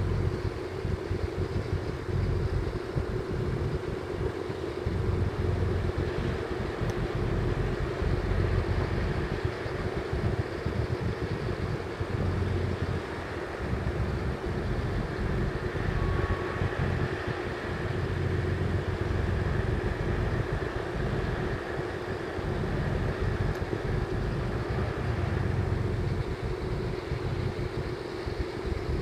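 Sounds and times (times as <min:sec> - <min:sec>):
constant hum: 0:00.0 - 0:29.0
ship engines droning: 0:00.0 - 0:29.0.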